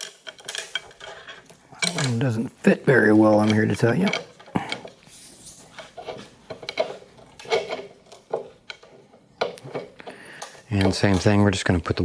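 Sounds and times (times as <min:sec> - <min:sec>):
metal clinks and scraping: 0:00.0 - 0:11.6.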